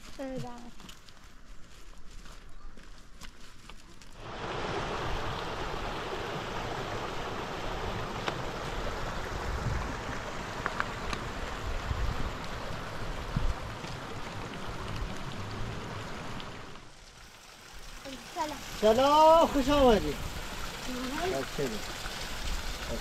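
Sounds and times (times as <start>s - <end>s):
stream babbling over rocks: 4.2s - 23.0s.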